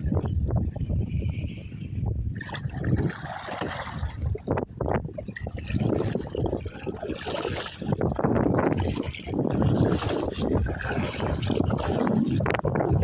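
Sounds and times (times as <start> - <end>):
water splashing around a kayak: 0.0 - 13.0.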